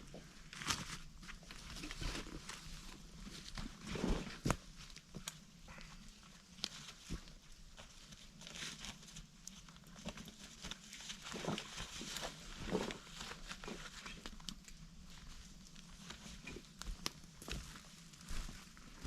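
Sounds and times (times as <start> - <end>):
crunching footsteps on forest floor: 0.1 - 19.0.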